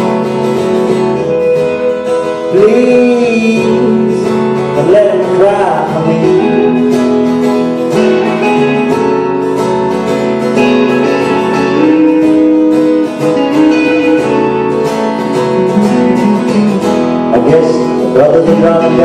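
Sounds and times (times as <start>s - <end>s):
two guitars playing folk-rock: 0.0s - 19.0s.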